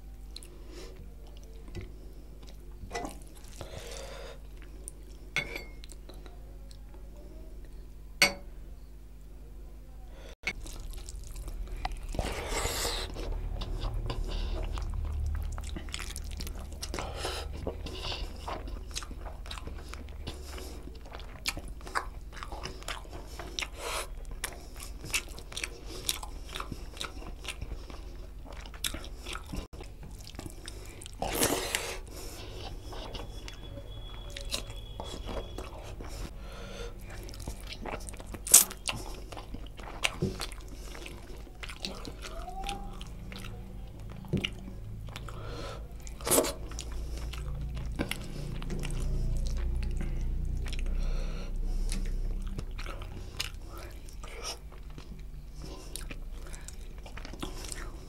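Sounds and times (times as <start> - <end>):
person chewing with mouth smacks: 0.3 - 7.0, 10.4 - 58.0.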